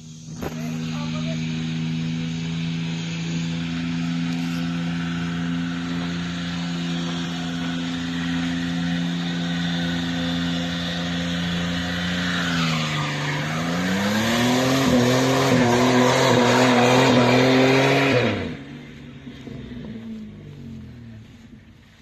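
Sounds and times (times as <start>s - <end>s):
spinning tires hissing and squealing: 0.0s - 21.1s
car engine at high revs: 0.0s - 22.0s.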